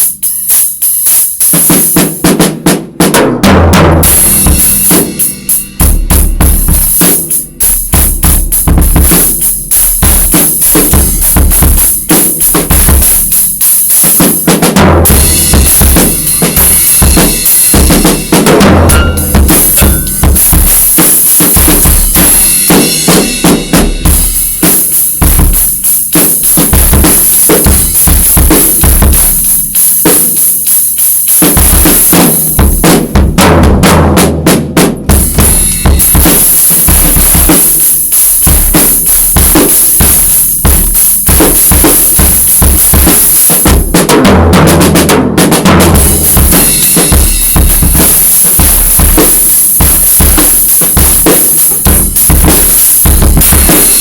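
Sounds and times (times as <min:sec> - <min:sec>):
cymbals: 0:00.0 - 0:44.1, 0:45.8 - 0:54.0
snare drum: 0:00.0 - 0:54.0
bass drum: 0:03.0 - 0:30.4, 0:31.3 - 0:54.0.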